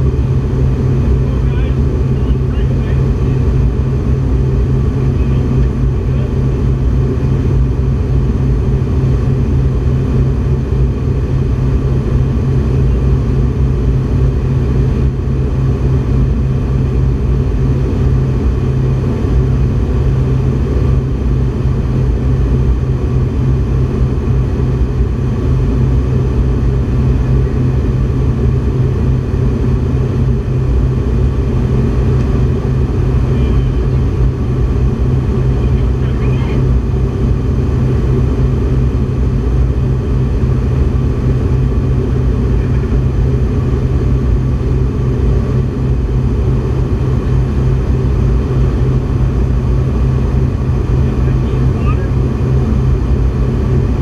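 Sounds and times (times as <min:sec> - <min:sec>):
aircraft cabin engine drone: 0:00.0 - 0:54.0.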